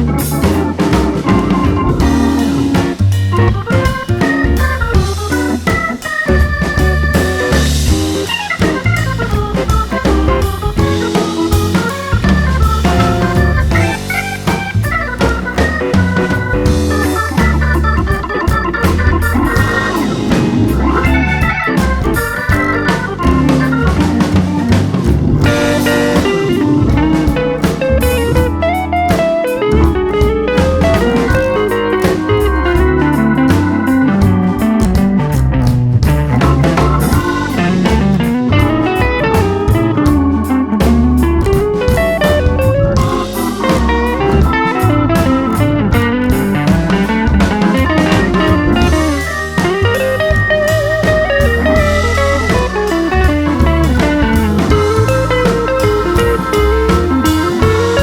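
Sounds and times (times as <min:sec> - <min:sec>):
blues band with guitar and drums: 0:00.0 - 0:58.0.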